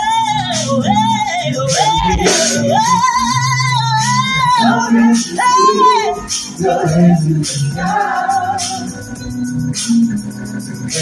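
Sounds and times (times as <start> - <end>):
woman singing gospel: 0.0 - 9.2
band with bass and drums: 0.0 - 11.0.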